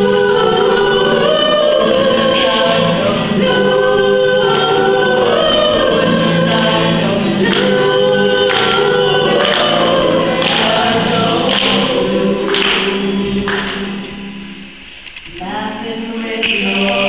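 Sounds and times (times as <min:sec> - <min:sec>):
women singing together: 0:00.0 - 0:14.2, 0:15.3 - 0:17.0.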